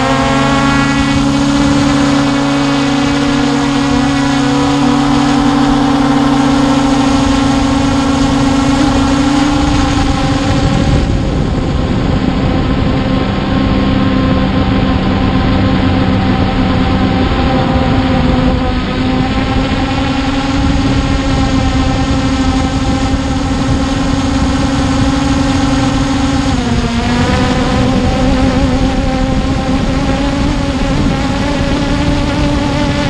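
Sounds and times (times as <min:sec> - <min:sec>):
drone motors humming: 0:00.0 - 0:33.0
wind noise: 0:00.0 - 0:33.0.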